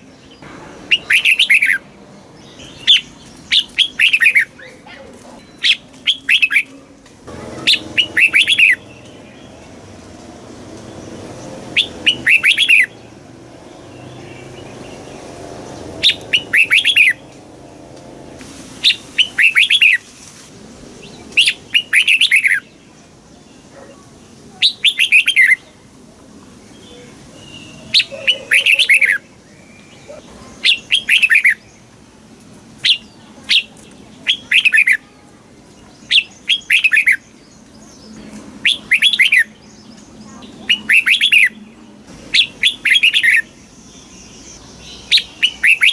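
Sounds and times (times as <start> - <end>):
bulbul singing: 0.0 - 20.1, 20.9 - 25.8, 26.7 - 32.0, 32.8 - 45.9.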